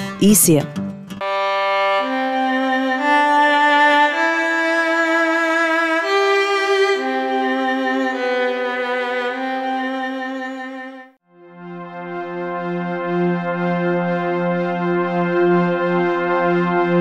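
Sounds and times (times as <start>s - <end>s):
bowed violin: 1.2s - 17.0s
slow orchestral music: 1.2s - 17.0s.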